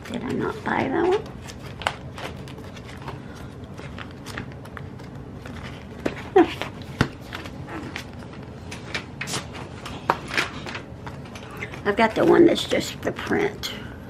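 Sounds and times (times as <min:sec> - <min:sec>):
plastic sleeves rustling: 0:00.0 - 0:13.3.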